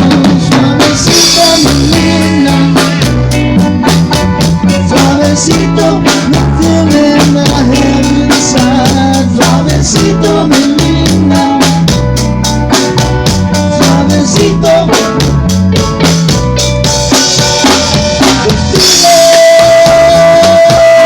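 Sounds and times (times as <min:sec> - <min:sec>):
bass line: 0:00.0 - 0:21.0
drum kit beat: 0:00.0 - 0:21.0.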